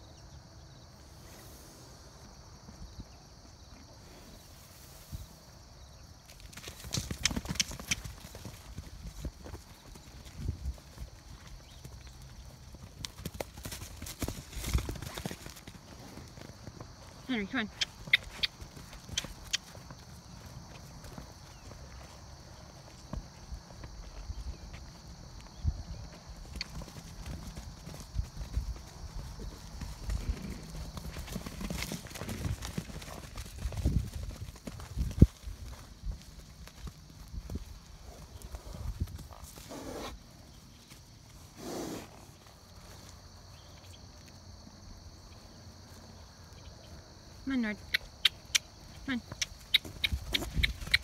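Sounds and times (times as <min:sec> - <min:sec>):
hoofbeats on grass: 0:06.2 - 0:51.0.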